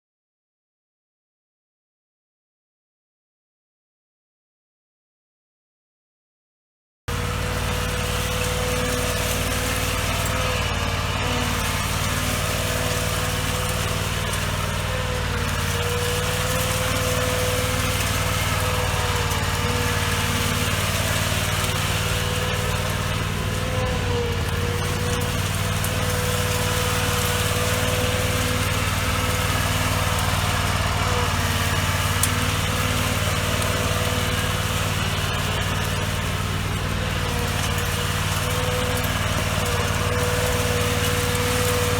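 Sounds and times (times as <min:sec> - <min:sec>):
riding lawn mower engine: 0:07.1 - 0:41.9.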